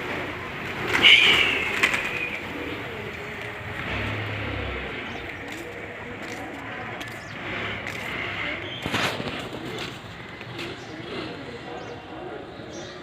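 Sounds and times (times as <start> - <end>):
birds calling: 0.0 - 13.0
outdoor background noise: 0.0 - 13.0.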